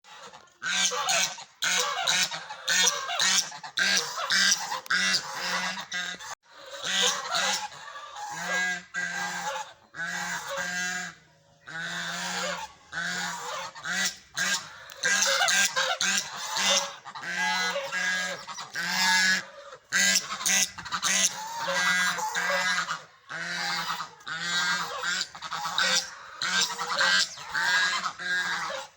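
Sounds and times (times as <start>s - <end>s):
duck quacking: 0.1s - 28.9s.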